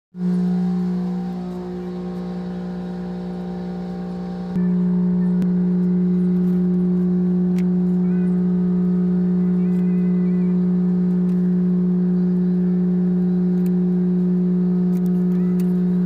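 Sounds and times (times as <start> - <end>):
low mechanical hum: 0.2 - 16.0.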